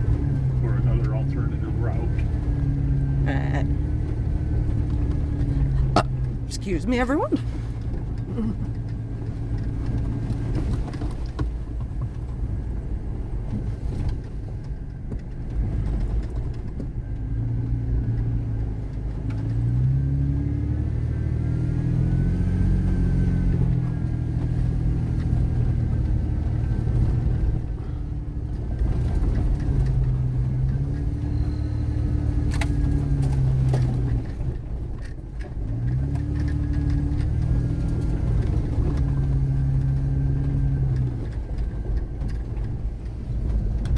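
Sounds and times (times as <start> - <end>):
car engine: 0.0 - 43.9.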